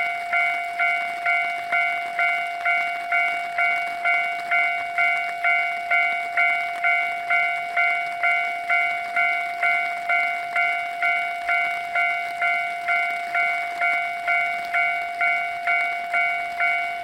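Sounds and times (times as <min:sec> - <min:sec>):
level-crossing alarm bell ringing: 0:00.0 - 0:17.0.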